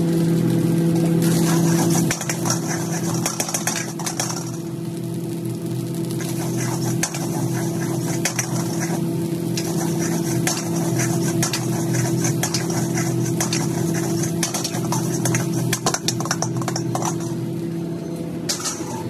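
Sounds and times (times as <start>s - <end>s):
rice sizzling: 0.0s - 19.0s
steady low hum: 0.0s - 19.0s
ladle scraping and clacking on wok: 1.0s - 4.7s, 6.1s - 17.4s, 18.5s - 19.0s.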